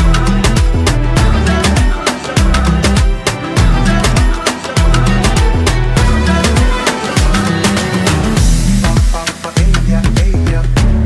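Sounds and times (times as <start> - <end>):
deep bass drum hits: 0.0 - 7.4, 8.3 - 11.0
background music with beat: 0.0 - 11.0.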